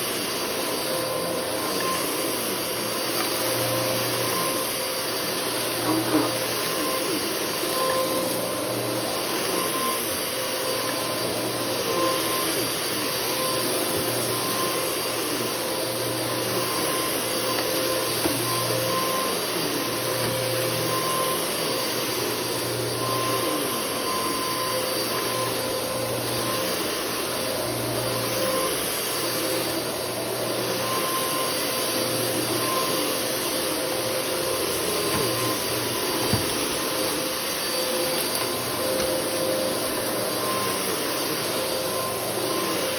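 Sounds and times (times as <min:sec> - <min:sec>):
vacuum cleaner motor hum: 0:00.0 - 0:42.9.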